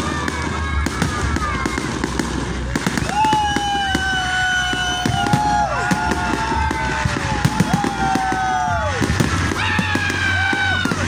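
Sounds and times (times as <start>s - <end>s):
fireworks crackling and banging: 0.0s - 11.0s
whistling firework shells: 1.0s - 11.0s.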